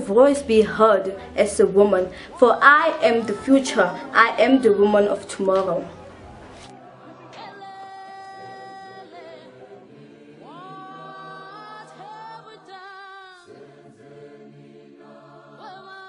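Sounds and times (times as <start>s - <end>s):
choir singing in harmony: 0.0s - 16.0s.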